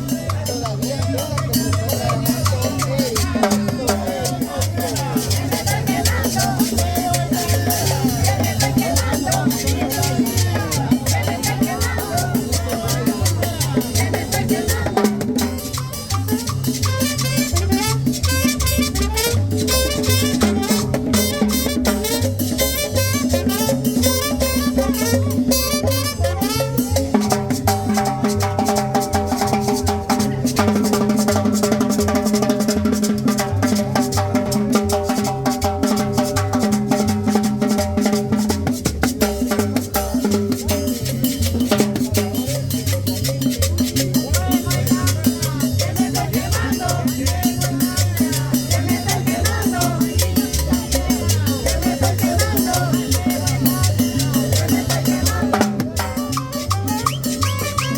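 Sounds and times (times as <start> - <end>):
salsa dance music: 0.0 - 28.2, 35.2 - 57.9.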